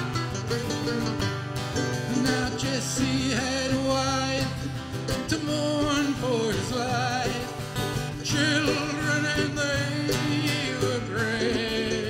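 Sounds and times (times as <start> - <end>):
acoustic guitar strumming: 0.0 - 12.0
mandolin playing: 0.0 - 12.0
man singing: 2.0 - 12.0.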